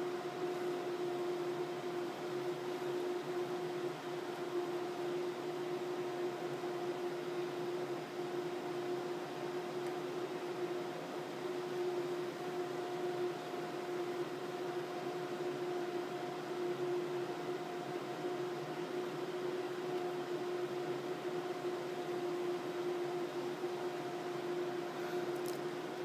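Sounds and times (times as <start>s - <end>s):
constant humming tone: 0.0s - 26.0s
fan-like hiss: 0.0s - 26.0s.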